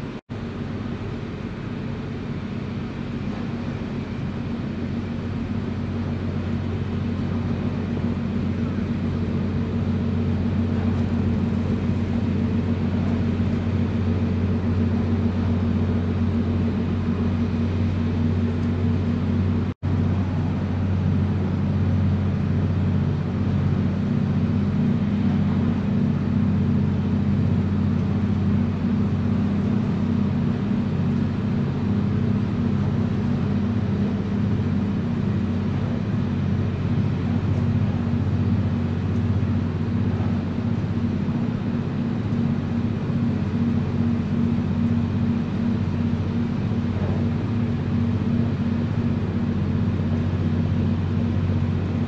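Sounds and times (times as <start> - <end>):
ship diesel engine drone: 0.0 - 52.0.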